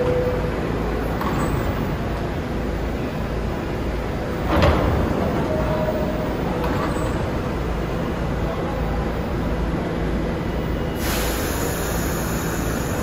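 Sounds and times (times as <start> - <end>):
standing train rumble: 0.0 - 13.0
subway doors sliding shut: 0.0 - 13.0.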